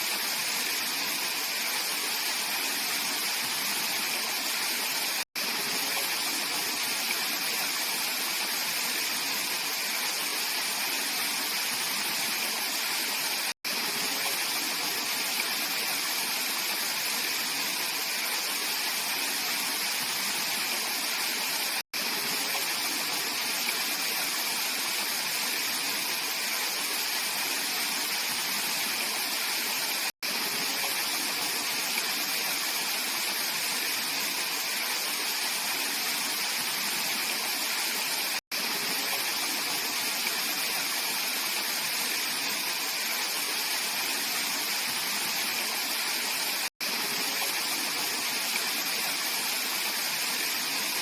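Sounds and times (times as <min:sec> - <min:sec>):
stream flowing: 0:00.0 - 0:51.0.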